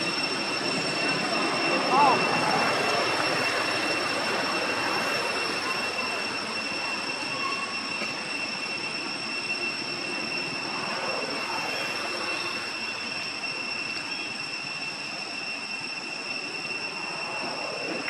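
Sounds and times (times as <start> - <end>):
high-pitched whine: 0.0 - 18.0
steady background noise: 0.0 - 18.0.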